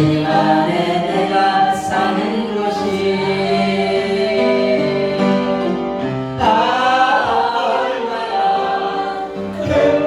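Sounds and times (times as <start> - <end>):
congregation singing a hymn: 0.0 - 10.0
instrumental accompaniment: 0.0 - 10.0.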